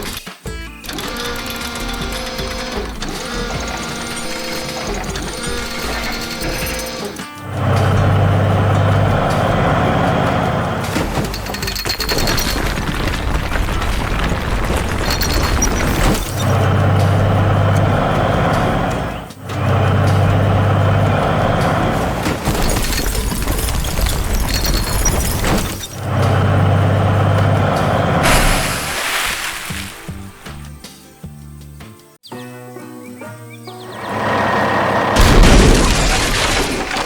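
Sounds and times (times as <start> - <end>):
cartoon truck engine hum: 0.8 - 30.8, 33.8 - 37.0.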